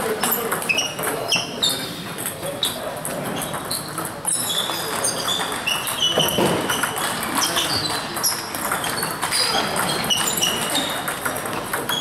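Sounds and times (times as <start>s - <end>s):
table tennis balls pinging: 0.0s - 12.0s.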